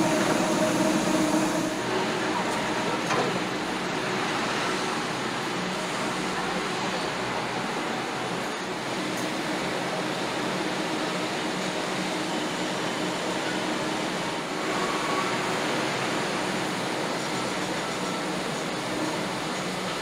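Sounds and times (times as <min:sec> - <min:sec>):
factory machinery hiss and hum: 0:00.0 - 0:20.0.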